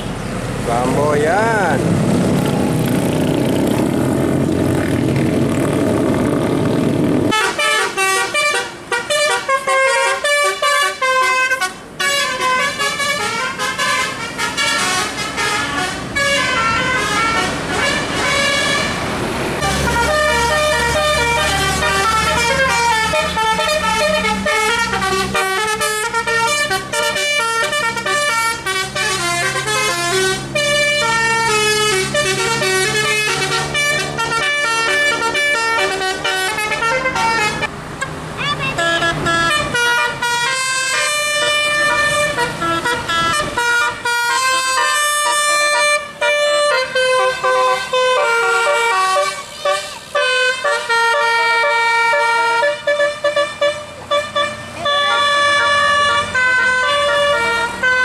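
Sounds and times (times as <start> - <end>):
musical air horns: 7.3 - 37.7, 38.6 - 58.0.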